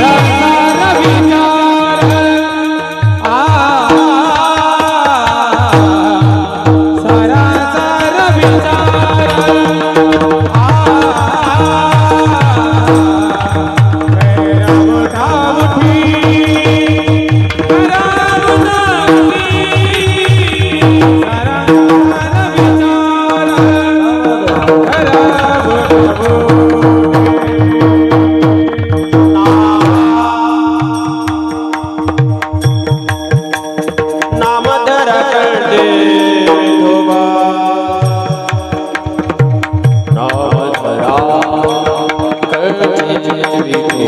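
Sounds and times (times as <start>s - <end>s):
person singing: 0.0s - 32.6s, 34.1s - 39.4s, 40.0s - 44.0s
rapid hand drum: 0.0s - 44.0s.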